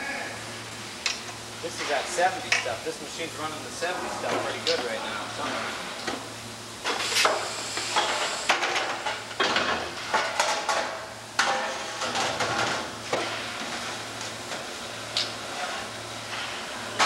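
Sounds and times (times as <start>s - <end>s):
machine low hum: 0.0s - 17.0s.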